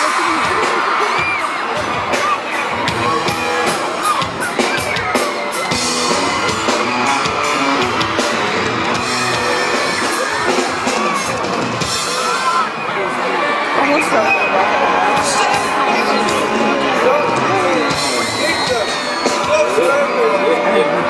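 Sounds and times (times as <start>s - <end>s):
drums keeping a steady beat: 0.0s - 12.9s, 13.8s - 21.0s
live band playing: 0.0s - 21.0s.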